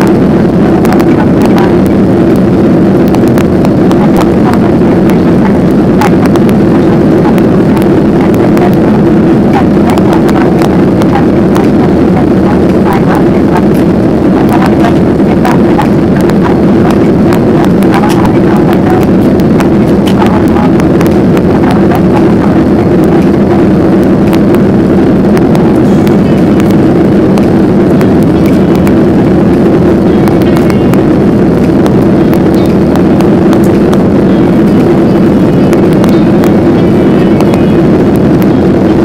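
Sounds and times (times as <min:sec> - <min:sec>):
jet engines droning: 0:00.0 - 0:39.0
rushing airflow: 0:00.0 - 0:39.0.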